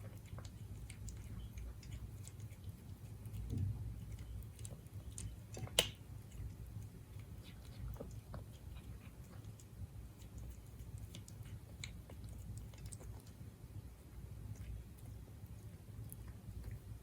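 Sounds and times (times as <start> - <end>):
cat chewing food: 0.0 - 17.0.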